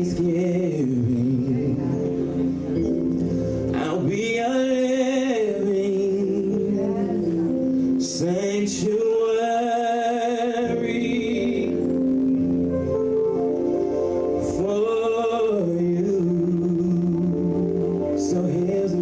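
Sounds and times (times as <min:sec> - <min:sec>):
person singing with vibrato: 0:00.0 - 0:19.0
sustained instrumental backing: 0:00.0 - 0:19.0.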